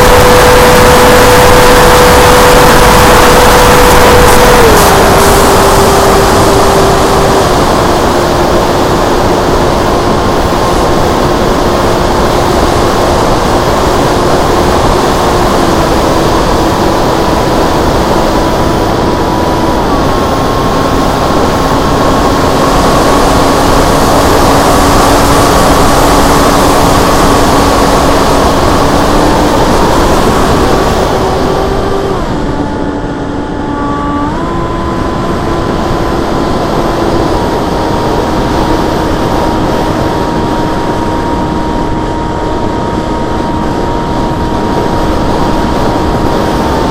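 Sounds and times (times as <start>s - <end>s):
electric motor propeller whine: 0.0s - 46.9s
wind rush on microphone: 0.0s - 46.9s.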